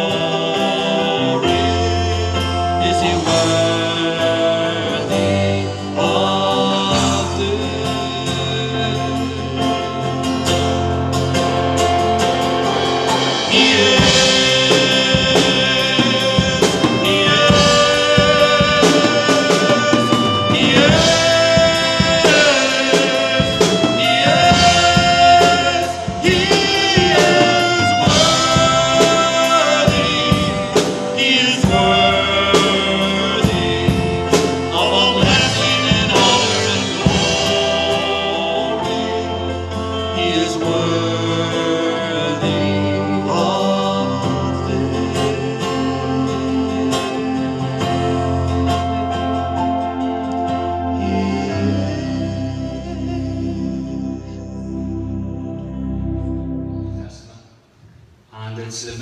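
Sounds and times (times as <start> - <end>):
person singing worship song: 0.0 - 10.8, 11.4 - 57.4
band of guitar and drums: 0.0 - 56.9.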